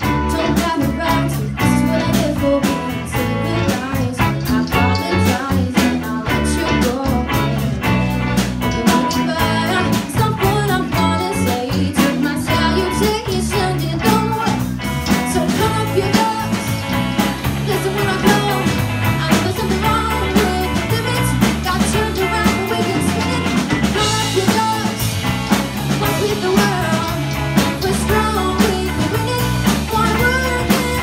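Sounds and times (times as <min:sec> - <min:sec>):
electric guitars: 0:00.0 - 0:31.0
person singing: 0:00.0 - 0:31.0
steady drum beat: 0:00.0 - 0:31.0.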